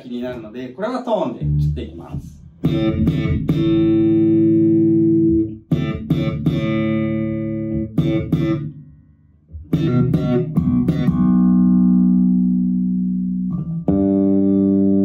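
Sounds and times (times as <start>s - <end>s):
electric bass notes: 1.2s - 15.0s.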